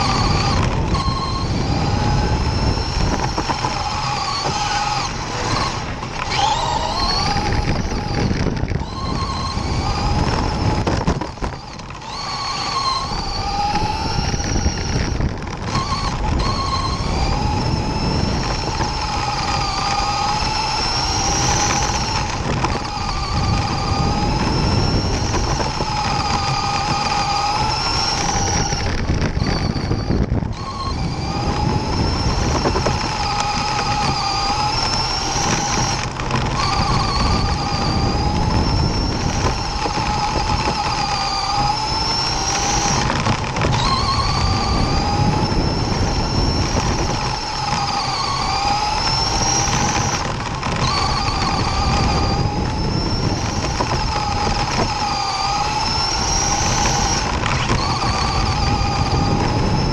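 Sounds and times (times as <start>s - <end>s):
rc car motor whine: 0.0s - 59.9s
tyres rumbling on dirt: 0.0s - 59.9s.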